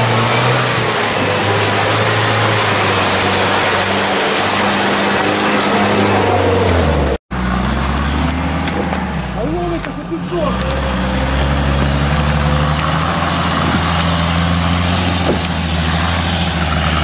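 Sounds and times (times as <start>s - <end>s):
off-road vehicle engine running hard: 0.0s - 17.0s.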